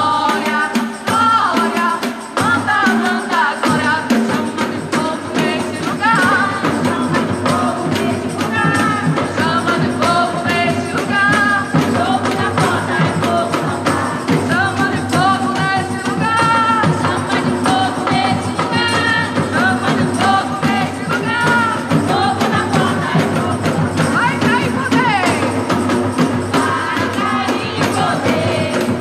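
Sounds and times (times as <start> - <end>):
people singing: 0.0 - 29.0
steady drum beat: 0.0 - 29.0.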